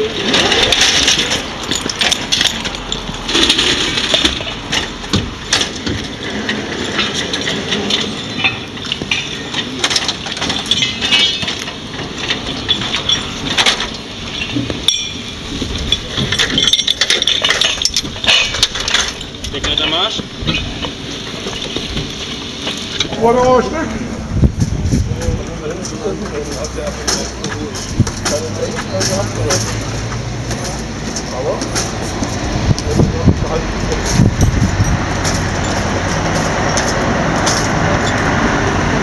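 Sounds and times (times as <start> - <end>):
metal ladder clanking: 0.0 - 23.2, 25.6 - 38.4.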